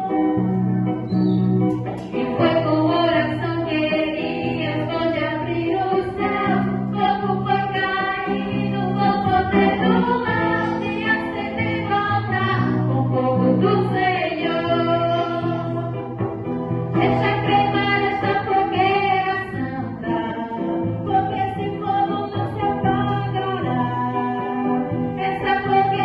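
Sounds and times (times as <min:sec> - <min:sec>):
instrumental backing: 0:00.0 - 0:26.0
voices singing gospel: 0:02.2 - 0:16.1, 0:16.9 - 0:26.0.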